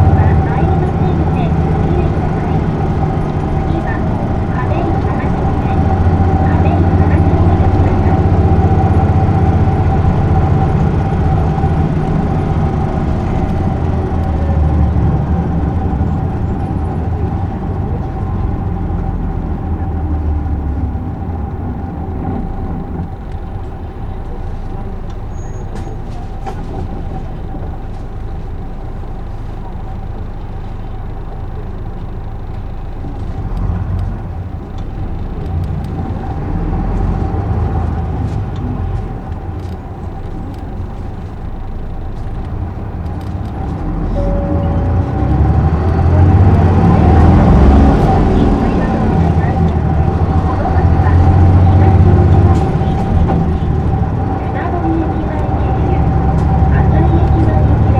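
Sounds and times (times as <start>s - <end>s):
bus diesel engine whining: 0.0s - 57.9s.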